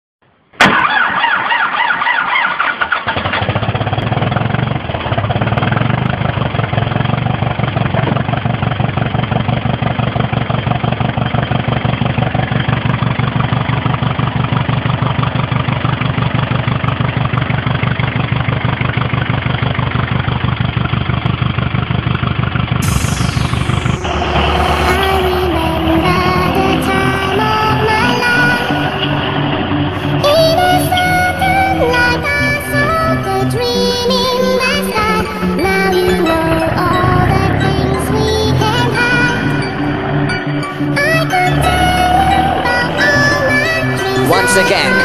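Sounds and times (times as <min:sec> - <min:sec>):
diesel engine cranking and running: 0:00.7 - 0:22.8, 0:24.0 - 0:45.0.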